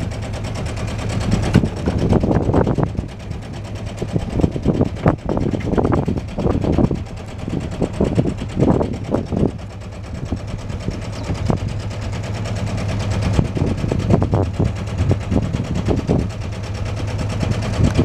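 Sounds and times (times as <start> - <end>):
boat engine running: 0.0 - 18.0
wind buffeting microphone: 1.2 - 18.0.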